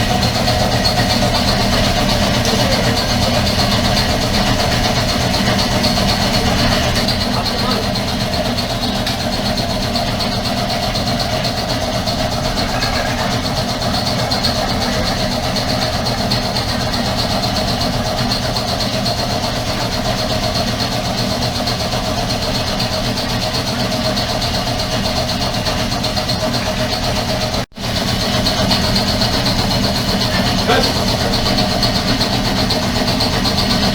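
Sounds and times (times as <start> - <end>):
air compressor running: 0.0 - 33.9.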